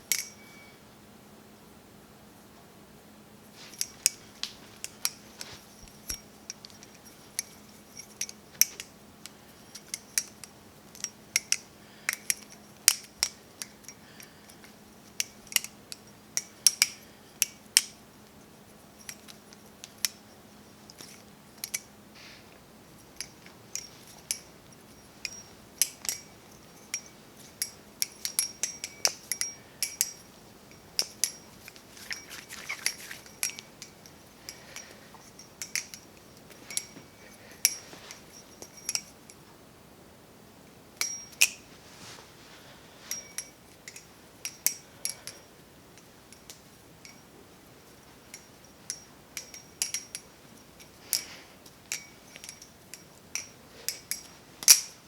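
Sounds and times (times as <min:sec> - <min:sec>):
butterfly knife handles clacking: 0:00.1 - 0:00.6, 0:03.6 - 0:18.0, 0:19.0 - 0:21.9, 0:23.0 - 0:39.4, 0:43.1 - 0:55.0.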